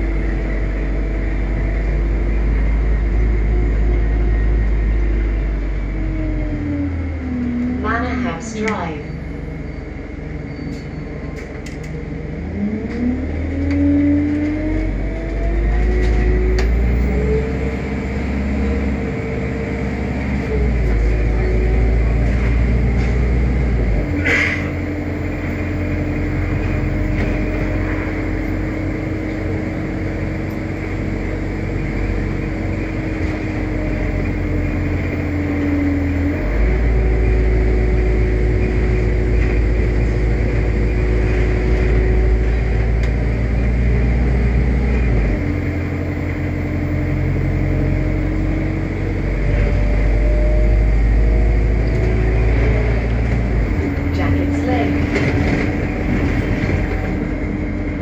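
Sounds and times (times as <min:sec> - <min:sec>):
bus engine accelerating: 0:00.0 - 0:58.0.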